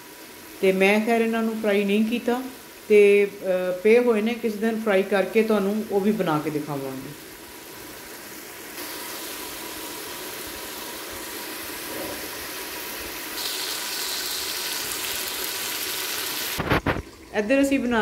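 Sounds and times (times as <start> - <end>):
curry bubbling and sizzling: 0.0 - 18.0.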